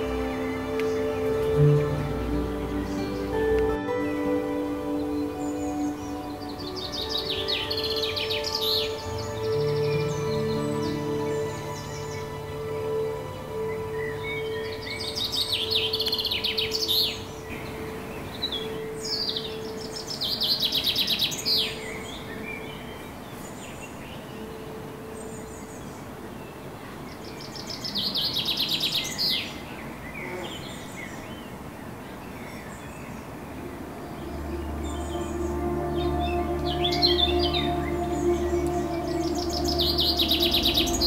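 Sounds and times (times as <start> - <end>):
soft bird chirps: 0.0 - 41.0
songbird trilling song: 0.0 - 41.0.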